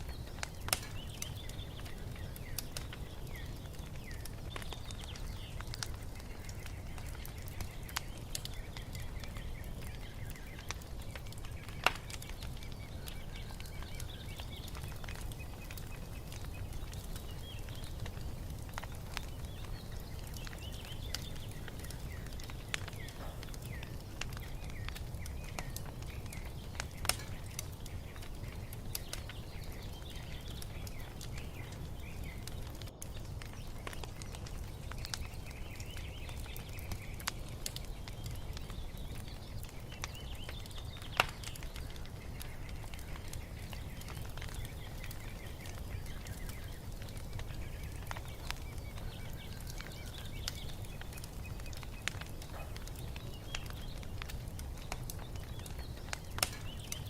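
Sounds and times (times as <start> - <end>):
small birds chirping: 0.0 - 57.0
wood fire crackling: 0.0 - 57.0.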